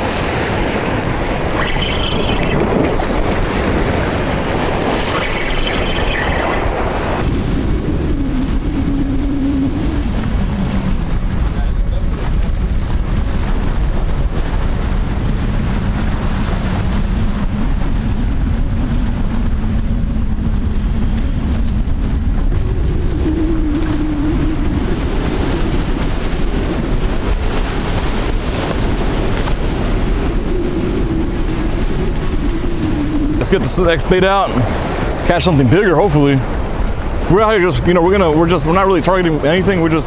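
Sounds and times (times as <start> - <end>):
boat engine droning: 0.0 - 40.0
surf: 0.0 - 40.0
wind buffeting microphone: 0.0 - 40.0.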